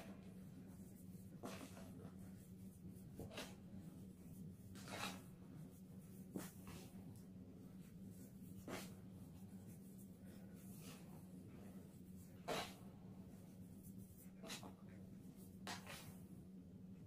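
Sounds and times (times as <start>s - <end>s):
soft powdery chalk swishes: 0.0s - 16.3s
low steady hum: 0.0s - 17.0s.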